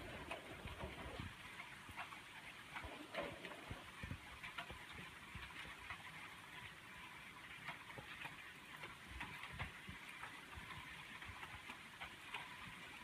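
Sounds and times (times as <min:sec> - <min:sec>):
rain hiss: 0:00.0 - 0:13.0
raindrops tapping: 0:00.0 - 0:13.0.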